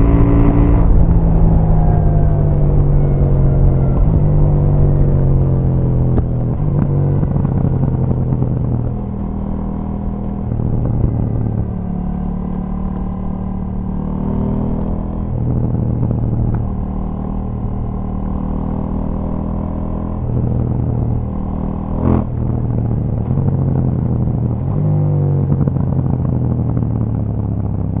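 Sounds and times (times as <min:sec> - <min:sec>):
exhaust pops and crackles: 0:00.0 - 0:28.0
motorcycle engine revving: 0:00.0 - 0:28.0.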